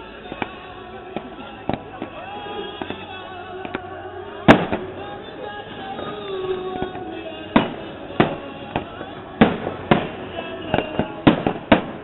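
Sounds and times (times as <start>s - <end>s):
fireworks exploding: 0.0s - 12.0s
music playing: 0.0s - 12.0s.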